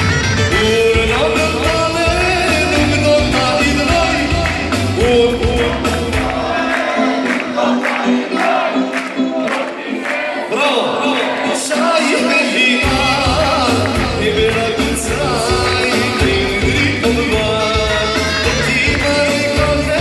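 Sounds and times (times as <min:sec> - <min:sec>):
live dance music: 0:00.0 - 0:20.0
male singer: 0:00.5 - 0:07.1, 0:10.4 - 0:20.0
people clapping along: 0:00.5 - 0:20.0.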